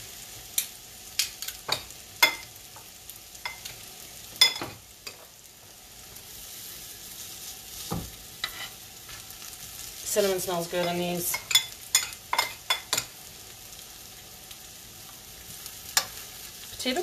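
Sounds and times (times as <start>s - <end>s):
pancakes sizzling in oil: 0.0s - 17.0s.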